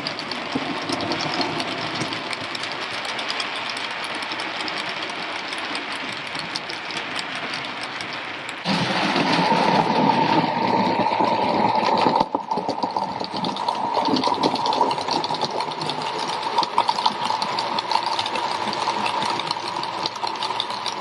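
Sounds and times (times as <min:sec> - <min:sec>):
wheels clicking over rail joints: 0:00.0 - 0:21.0.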